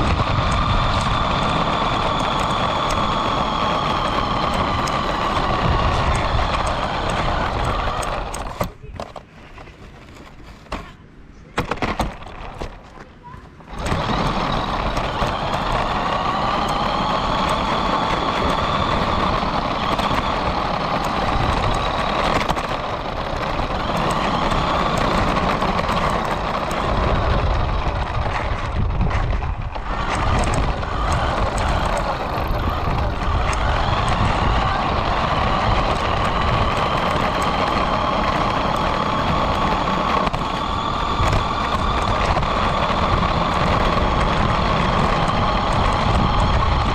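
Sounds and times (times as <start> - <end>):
remote-control car motor whine: 0.0 - 9.1, 13.6 - 46.9
wheels rumbling on road: 0.0 - 46.9.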